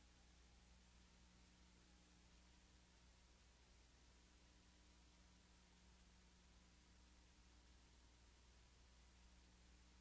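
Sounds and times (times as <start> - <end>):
faint low hum and hiss: 0.0 - 10.0.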